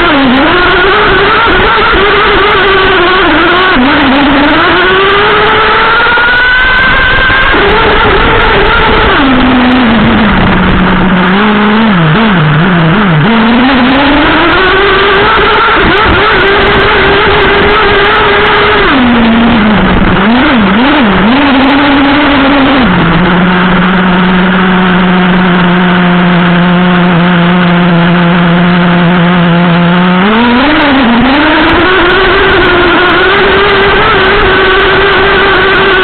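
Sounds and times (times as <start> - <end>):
nitro engine revving and idling: 0.0 - 36.0.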